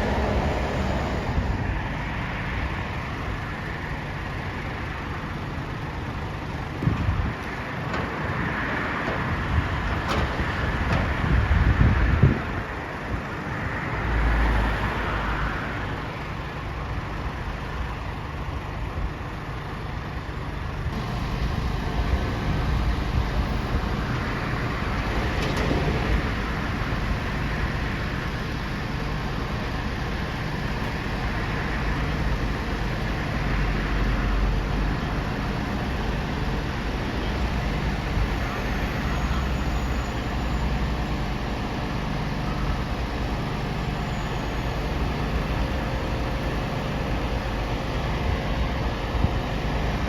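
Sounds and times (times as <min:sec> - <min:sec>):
truck engine running: 0:00.0 - 0:13.4, 0:15.8 - 0:50.0.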